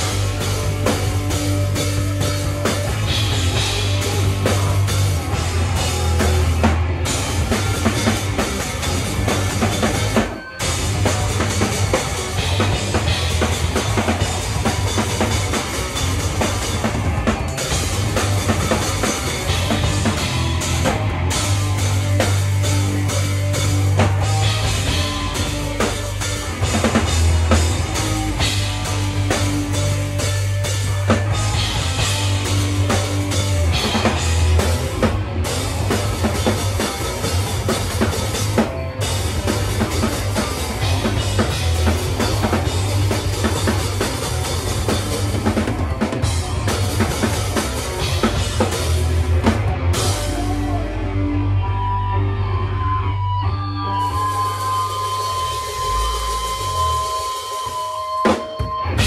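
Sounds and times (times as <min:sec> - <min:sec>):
bass drum and cymbals: 0:00.0 - 0:50.9, 0:54.0 - 0:59.0
live rock band playing: 0:00.0 - 0:59.0.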